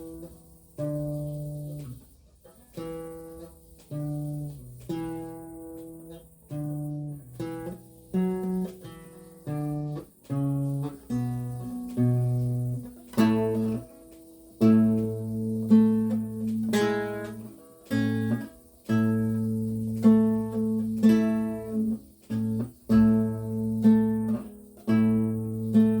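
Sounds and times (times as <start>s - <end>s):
lute playing: 0.0s - 26.0s.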